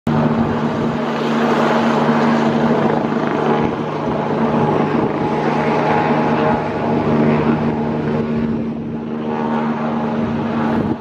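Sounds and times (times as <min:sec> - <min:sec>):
helicopter hovering: 0:00.1 - 0:11.0.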